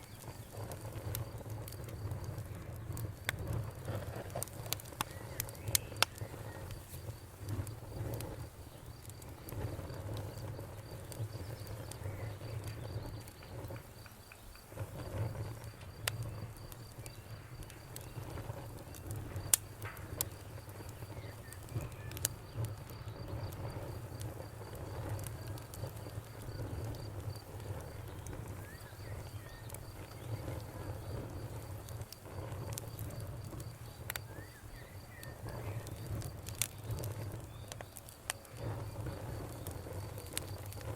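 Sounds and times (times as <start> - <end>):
low rumble of flames: 0.0 - 40.9
wood fire popping and snapping: 0.0 - 40.9.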